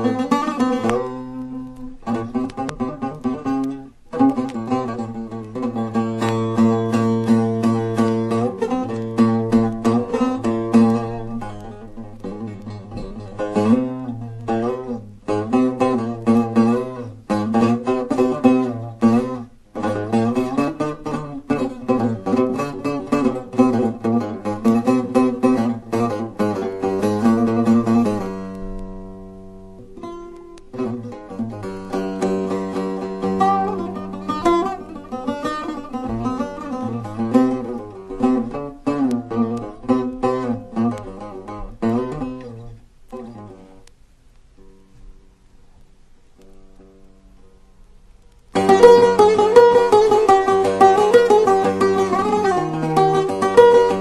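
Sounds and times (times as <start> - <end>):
plucked lute melody with drone: 0.0 - 43.9, 46.4 - 54.0.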